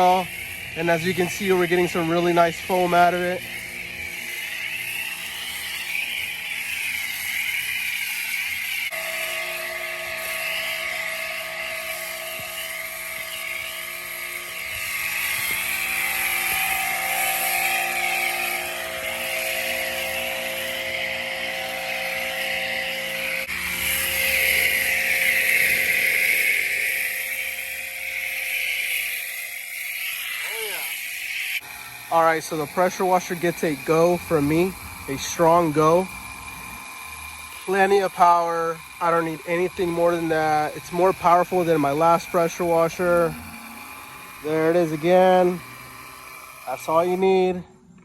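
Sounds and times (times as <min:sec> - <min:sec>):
water spraying hiss: 0:00.0 - 0:47.6
pressure washer motor whine: 0:00.0 - 0:48.0.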